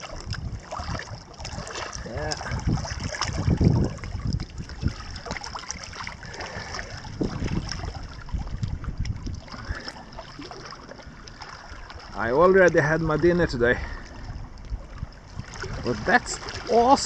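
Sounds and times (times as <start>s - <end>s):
lake water lapping at shore: 0.0s - 17.0s
wind rumbling on microphone: 0.0s - 17.0s.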